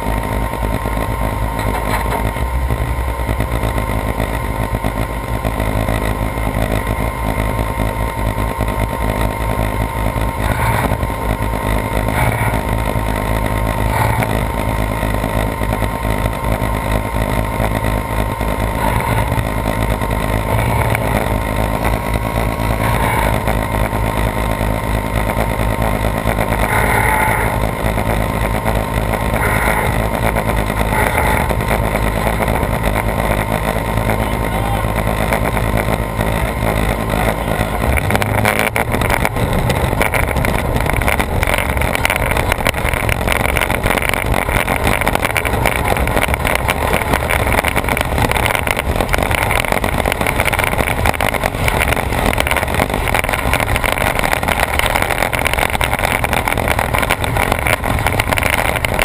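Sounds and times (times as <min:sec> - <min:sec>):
faint steady whine: 0:00.0 - 0:59.0
vehicle engine running: 0:00.0 - 0:59.0.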